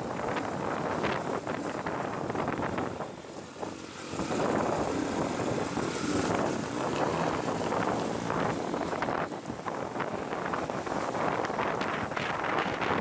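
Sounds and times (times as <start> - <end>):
motorcycle running: 0.0 - 13.0
wind on microphone: 0.0 - 13.0.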